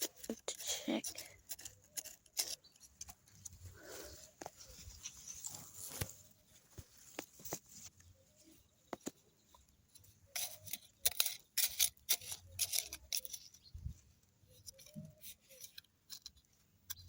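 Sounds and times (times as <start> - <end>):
plants and soil rustling: 0.0 - 17.0.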